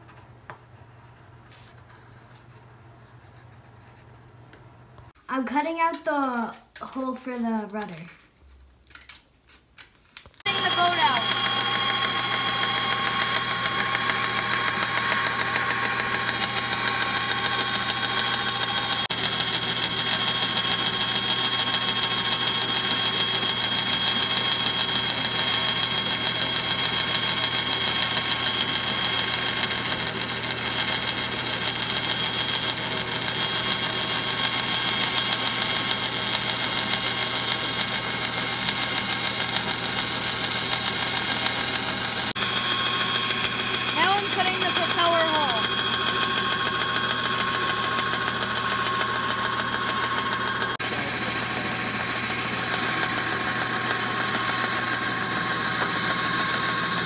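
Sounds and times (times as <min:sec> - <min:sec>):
bandsaw cutting wood: 0:10.4 - 0:57.0.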